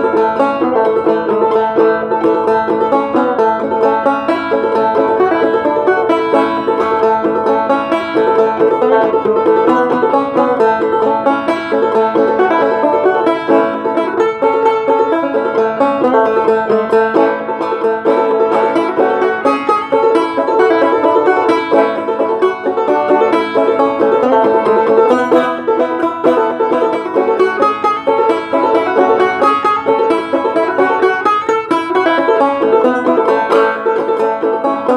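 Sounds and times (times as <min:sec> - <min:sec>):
banjo plucked notes: 0:00.0 - 0:34.9.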